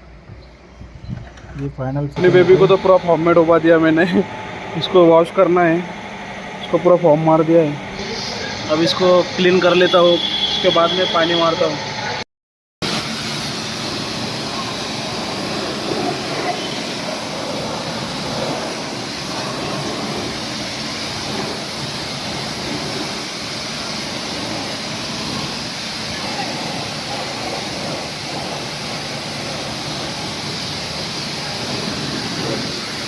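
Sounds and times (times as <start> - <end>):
water jet spraying: 2.2 - 12.2, 12.8 - 33.0.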